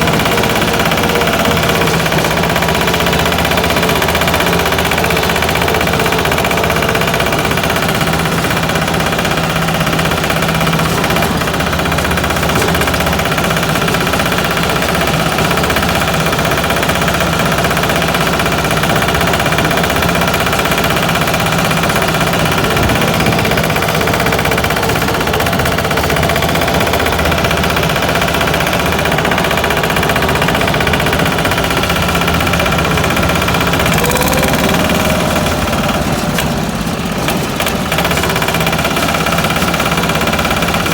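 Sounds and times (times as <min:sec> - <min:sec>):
walking tractor engine running: 0:00.0 - 0:40.9.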